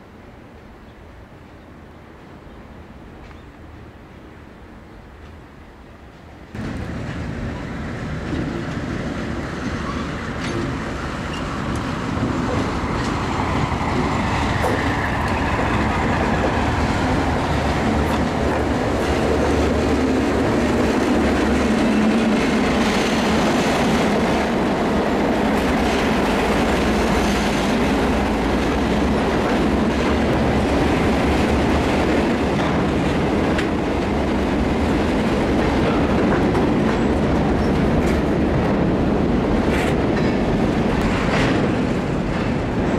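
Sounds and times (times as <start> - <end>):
diesel locomotive engine: 2.1 - 42.9
freight cars rolling on rails: 6.1 - 42.9.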